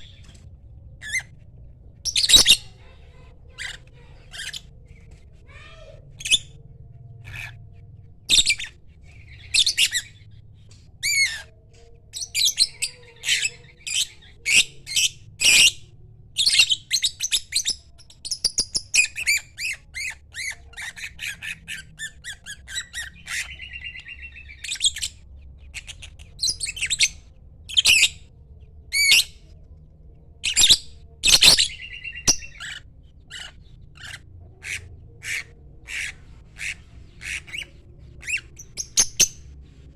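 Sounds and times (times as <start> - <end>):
lovebird chirping and squawking: 1.0 - 1.4, 2.1 - 10.3, 11.0 - 28.3, 30.4 - 39.5.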